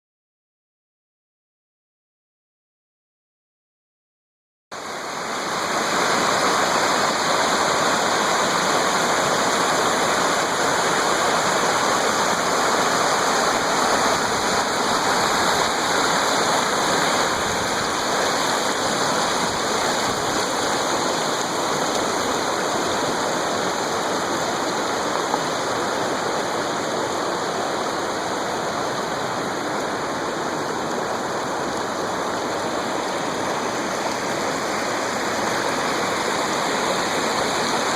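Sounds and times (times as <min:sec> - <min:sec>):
waterfall rushing: 0:04.8 - 0:37.9.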